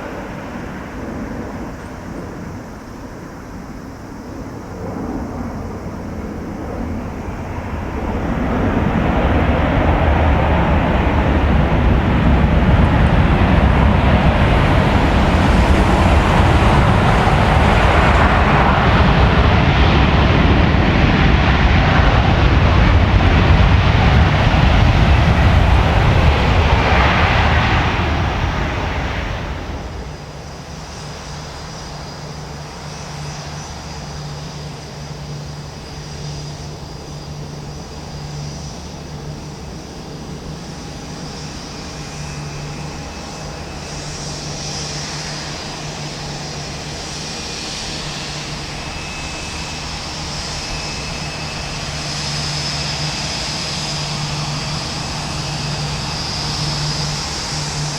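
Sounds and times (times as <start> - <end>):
jet engines roaring: 0.0 - 57.9.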